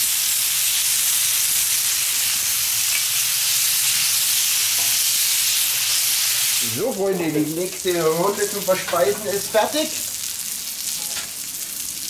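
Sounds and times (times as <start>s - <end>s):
meat sizzling on hot plate: 0.0s - 12.0s.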